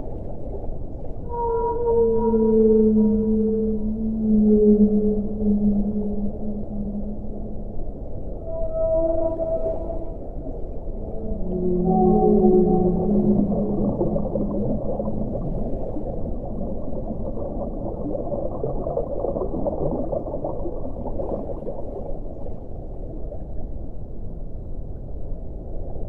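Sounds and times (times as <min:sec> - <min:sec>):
muffled underwater rush: 0:00.0 - 0:01.3, 0:02.0 - 0:26.0
underwater bubbling: 0:00.0 - 0:24.3
low whale call: 0:00.4 - 0:22.8.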